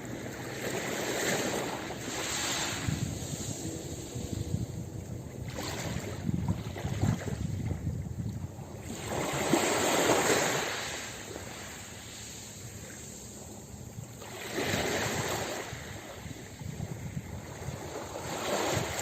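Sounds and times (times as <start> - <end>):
ocean waves breaking on beach: 0.0 - 19.0.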